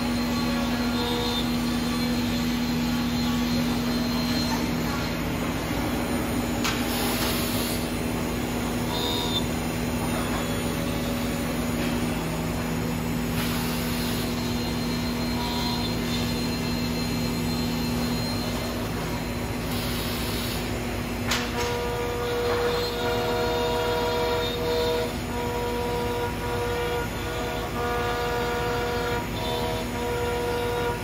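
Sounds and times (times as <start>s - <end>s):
cnc router humming: 0.0s - 31.0s.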